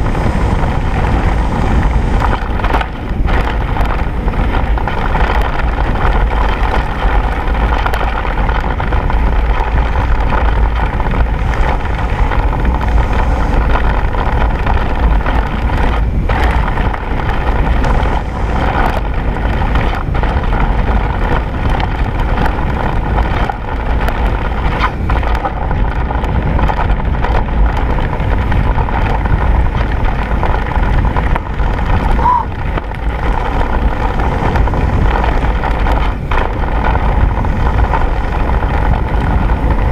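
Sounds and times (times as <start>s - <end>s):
bike knocking on bumps: 0.0s - 39.9s
mountain bike rattle and tyre noise: 0.0s - 39.9s
wind on microphone: 0.0s - 39.9s.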